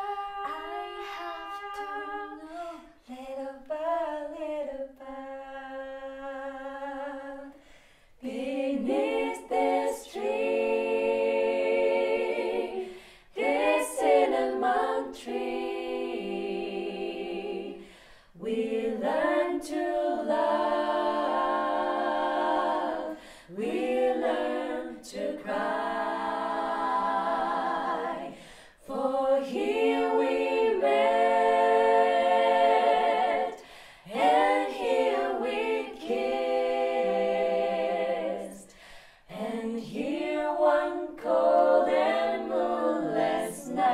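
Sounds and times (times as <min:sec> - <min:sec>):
women singing in harmony: 0:00.0 - 0:43.9.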